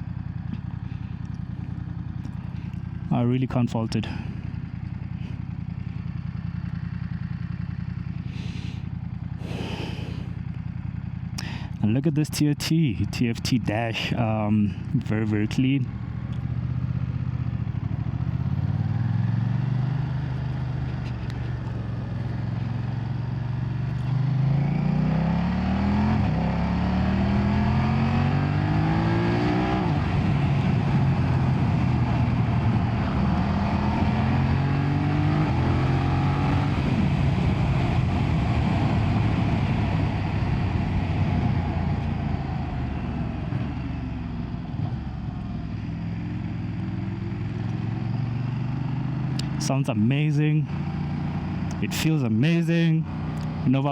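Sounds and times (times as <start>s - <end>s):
motorcycle engine shifting gears: 0.0s - 3.1s, 4.0s - 11.8s, 15.8s - 51.9s, 53.0s - 53.9s.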